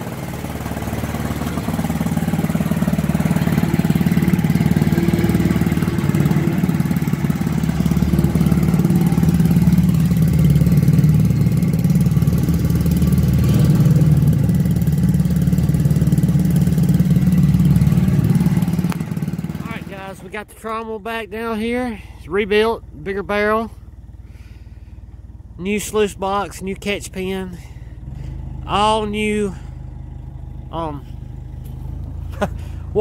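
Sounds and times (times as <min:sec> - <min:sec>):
engine droning steadily: 0:00.0 - 0:33.0.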